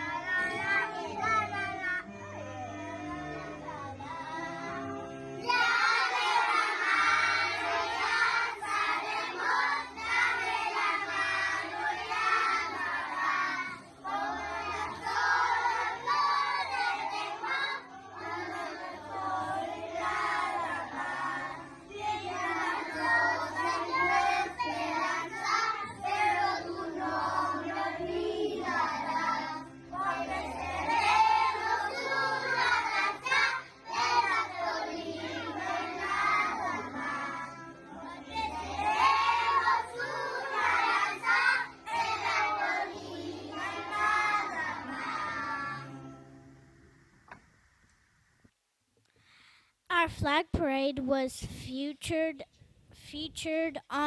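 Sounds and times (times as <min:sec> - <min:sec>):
children singing together: 0:00.0 - 0:46.2
recorded musical accompaniment: 0:00.0 - 0:50.4.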